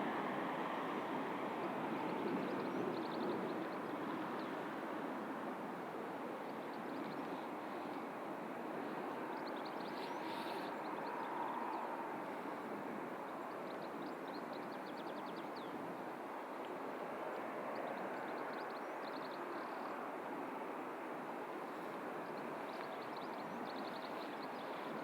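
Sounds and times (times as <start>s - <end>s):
distant airport noise: 0.0s - 25.0s.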